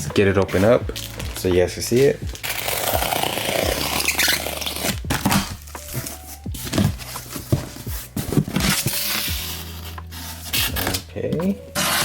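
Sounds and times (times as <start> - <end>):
packaging crinkling and tearing: 0.5 - 11.1.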